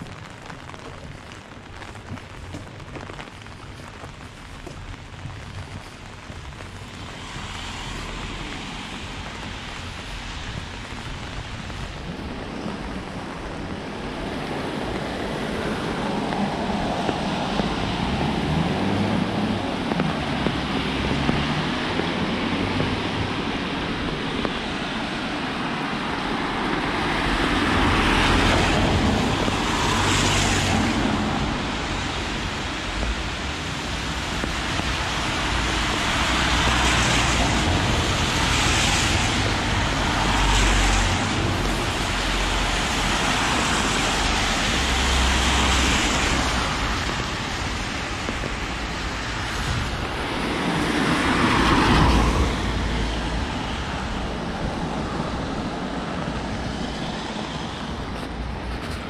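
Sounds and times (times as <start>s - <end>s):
tyres hissing on wet road: 0.0s - 59.0s.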